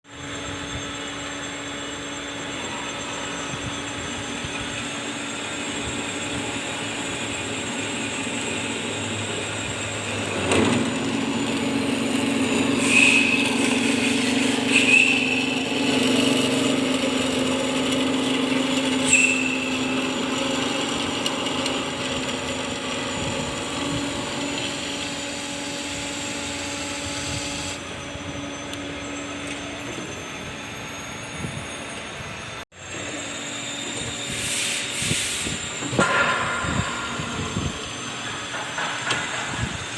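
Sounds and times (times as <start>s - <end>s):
short high squeals: 0.1s - 32.6s
band saw humming: 0.1s - 39.9s.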